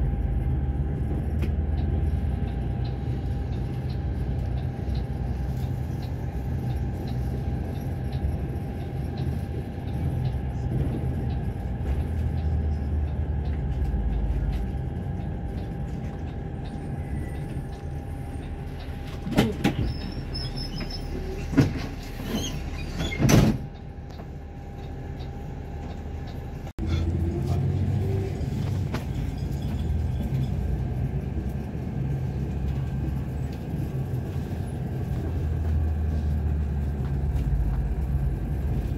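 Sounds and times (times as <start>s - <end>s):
large vehicle engine rumble: 0.0s - 38.9s.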